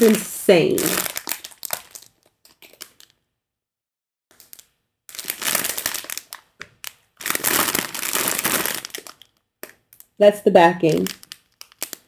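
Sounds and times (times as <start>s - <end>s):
plastic bag crinkling: 0.0s - 3.2s, 4.3s - 10.2s, 10.8s - 12.0s.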